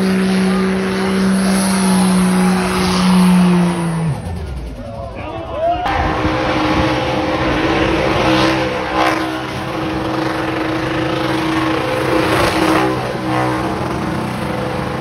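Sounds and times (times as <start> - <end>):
car engine at high revs: 0.0 - 4.8, 5.9 - 15.0.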